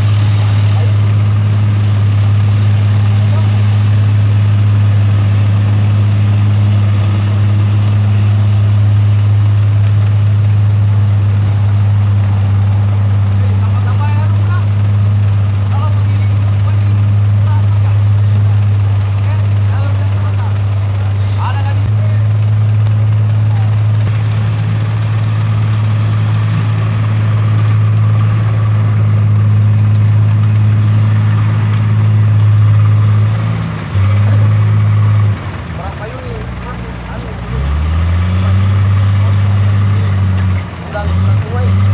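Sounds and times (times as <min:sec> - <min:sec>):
diesel truck engine humming: 0:00.0 - 0:41.9.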